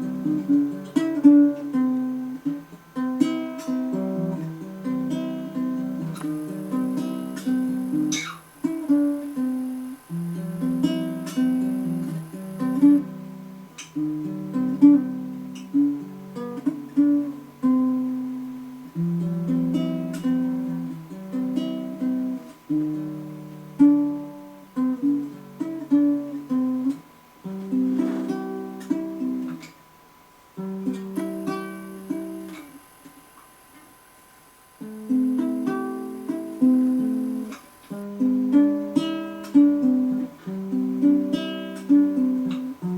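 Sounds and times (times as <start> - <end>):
acoustic guitar chords: 0.0 - 42.9.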